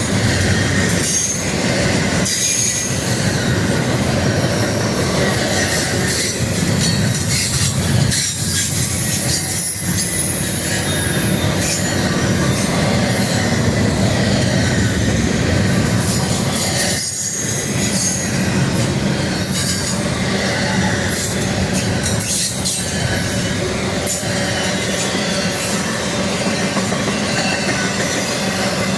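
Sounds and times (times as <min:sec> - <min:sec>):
high wheel squeal: 0:00.0 - 0:28.9
rattle of train cars: 0:00.0 - 0:28.9
train wheels on rails: 0:00.0 - 0:28.9.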